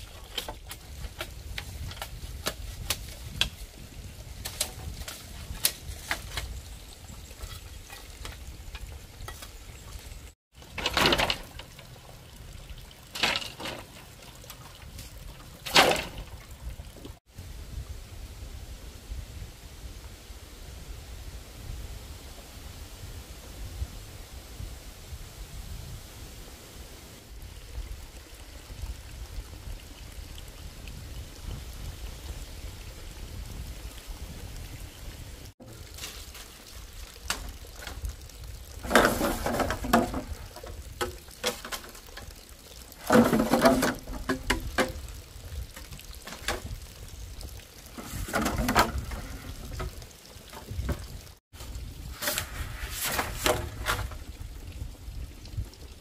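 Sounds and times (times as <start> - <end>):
water pouring and splashing: 0.0 - 17.8, 27.2 - 56.0.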